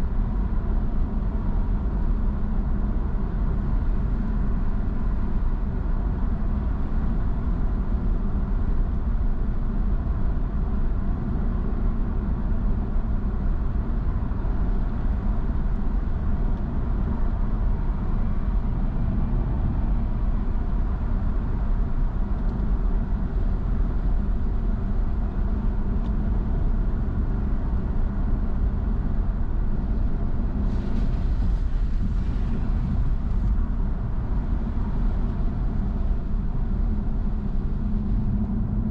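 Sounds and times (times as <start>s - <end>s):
car driving road rumble: 0.0s - 38.9s.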